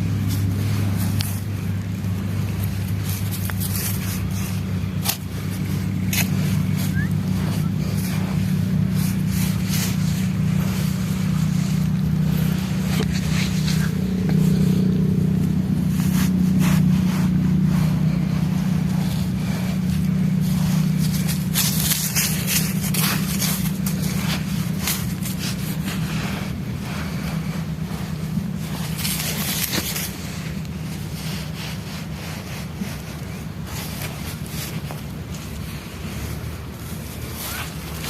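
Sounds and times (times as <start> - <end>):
dry material crunching: 0.0 - 38.0
low hum: 0.0 - 38.0.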